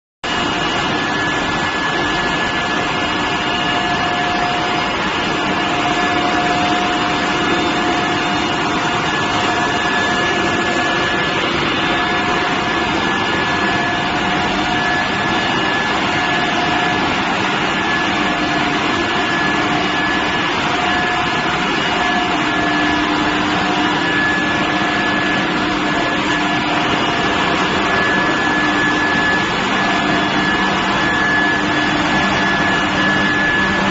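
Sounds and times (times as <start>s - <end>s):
high whining tones: 0.2s - 33.9s
industrial drone: 0.2s - 33.9s.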